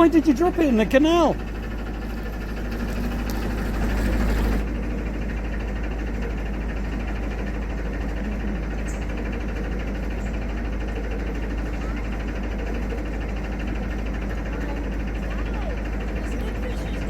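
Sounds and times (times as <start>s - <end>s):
boat diesel engine running: 0.0s - 17.0s.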